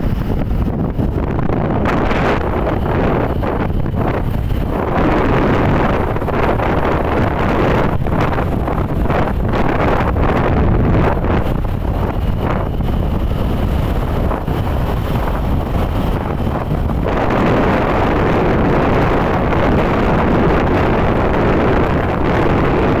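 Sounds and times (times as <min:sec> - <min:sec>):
low rumble of travel: 0:00.0 - 0:23.0
wind buffeting microphone: 0:00.0 - 0:23.0.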